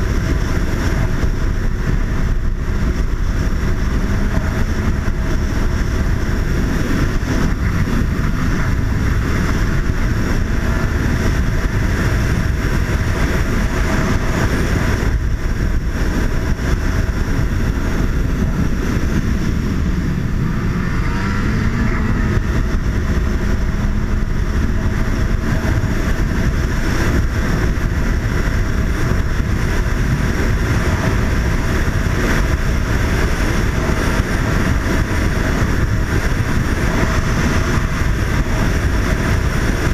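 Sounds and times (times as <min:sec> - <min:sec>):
snowmobile engine running: 0:00.0 - 0:39.9
wind rumble on microphone: 0:00.0 - 0:39.9.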